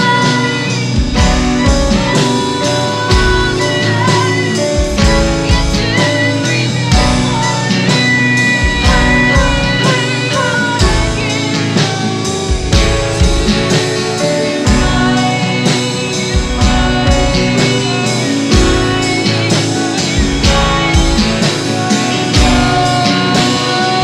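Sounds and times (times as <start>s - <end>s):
drum kit steady beat: 0.0s - 24.0s
guitar: 0.0s - 24.0s
keyboard: 0.0s - 24.0s
women singing: 0.0s - 24.0s.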